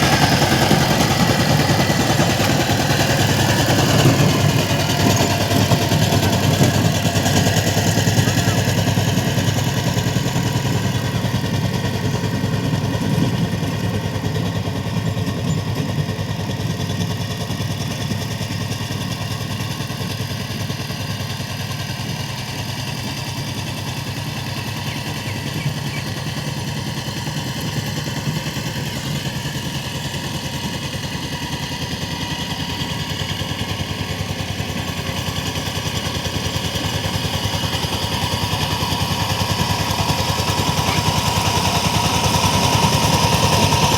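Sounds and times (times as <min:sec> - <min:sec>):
power tiller engine running: 0:00.0 - 0:43.9.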